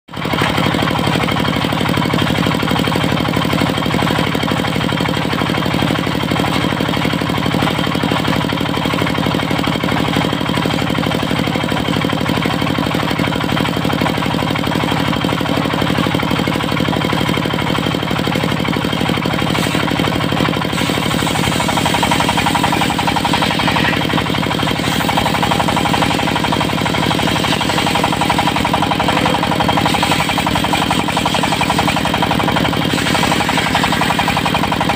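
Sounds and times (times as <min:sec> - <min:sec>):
diesel engine knocking: 0:00.1 - 0:34.9.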